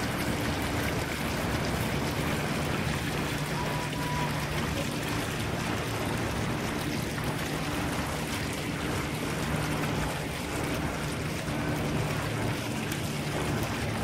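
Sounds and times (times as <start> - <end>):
low steady hum: 0.0 - 14.0
steady outdoor rushing noise: 0.0 - 14.0.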